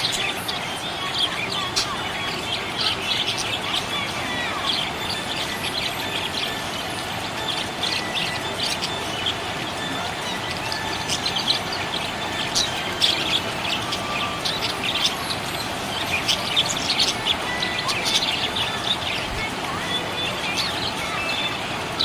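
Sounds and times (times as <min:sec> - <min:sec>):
parrots chirping: 0:00.0 - 0:22.0.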